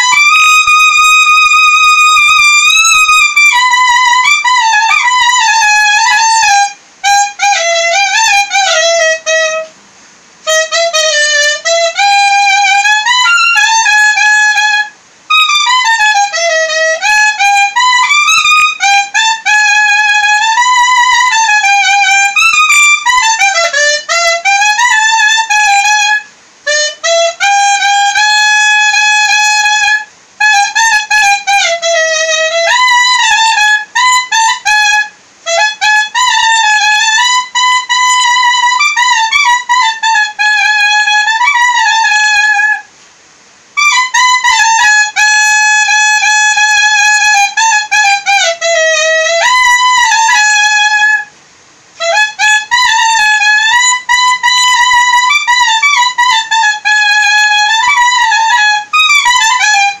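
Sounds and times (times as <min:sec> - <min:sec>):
solo clarinet melody: 0:00.0 - 0:43.0, 0:43.7 - 1:00.0.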